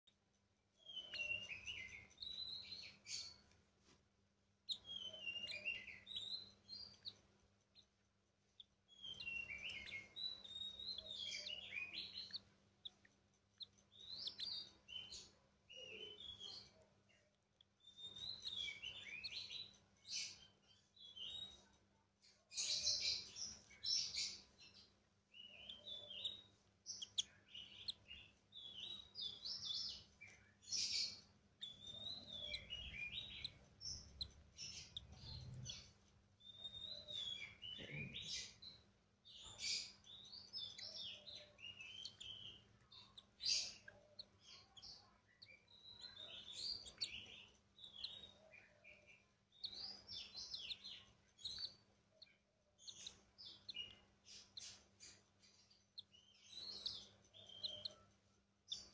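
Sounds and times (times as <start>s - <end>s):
bird chicks begging chirps: 0.8s - 3.6s, 4.6s - 21.7s, 22.5s - 58.9s.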